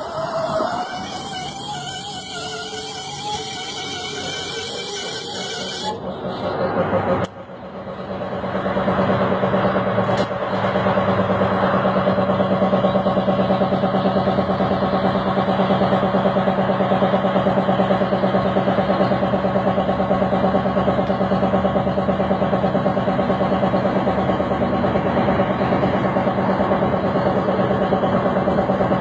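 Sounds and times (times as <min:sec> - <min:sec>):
motor running with pulsing beat: 0:00.0 - 0:29.0.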